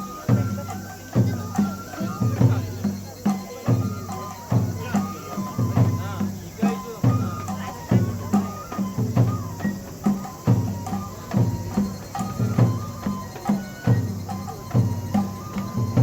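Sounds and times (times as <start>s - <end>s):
drums struck in steady beat: 0.0s - 16.0s
high sustained melody: 0.0s - 16.0s.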